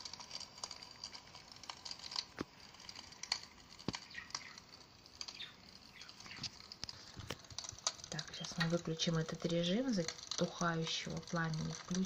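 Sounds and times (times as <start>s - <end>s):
fire crackling through small speaker: 0.0s - 12.0s.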